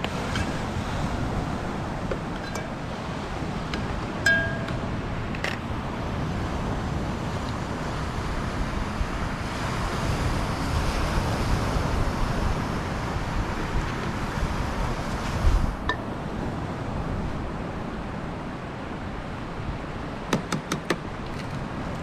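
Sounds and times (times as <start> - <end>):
surf washing: 0.0 - 20.3
wind buffeting microphone: 0.0 - 20.3.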